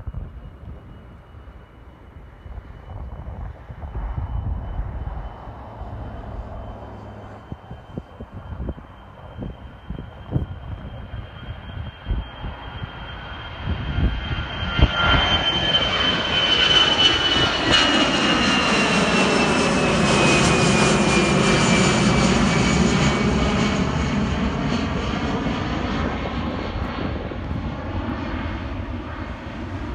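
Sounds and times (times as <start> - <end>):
high engine whine falling in pitch: 0.0 - 29.9
jet airliner engines roaring: 0.0 - 29.9.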